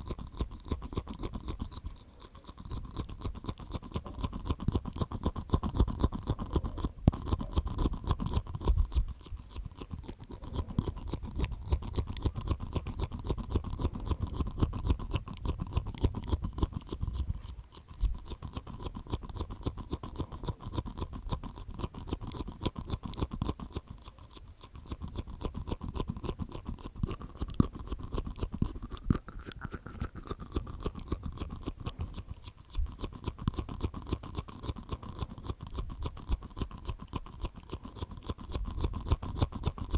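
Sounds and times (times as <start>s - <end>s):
mouth clicking and tapping: 0.0s - 39.9s.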